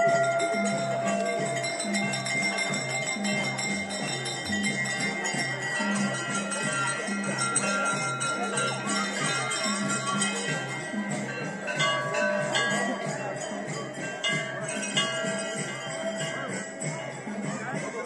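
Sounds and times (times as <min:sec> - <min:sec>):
music with steady low beat: 0:00.0 - 0:18.0
temple bells ringing: 0:00.0 - 0:18.0.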